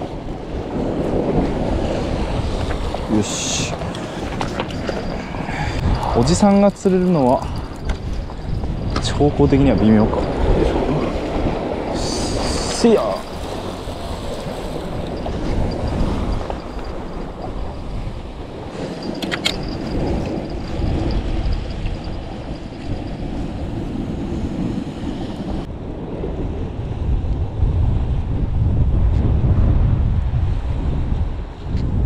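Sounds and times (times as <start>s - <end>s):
sea surf on rocky shore: 0.0s - 27.1s
wind buffeting microphone: 0.0s - 32.0s.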